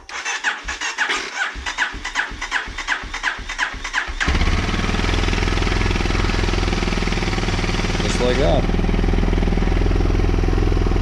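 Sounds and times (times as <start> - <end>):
motorcycle engine starting and idling: 0.0 - 11.0.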